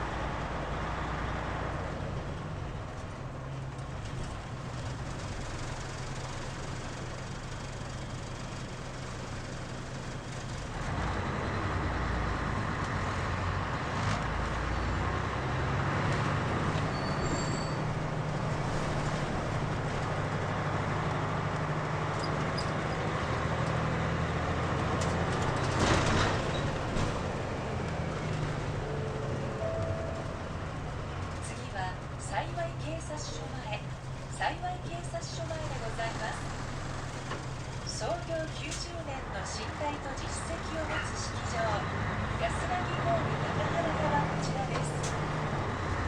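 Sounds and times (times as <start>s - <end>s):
bus diesel engine: 0.0s - 46.0s.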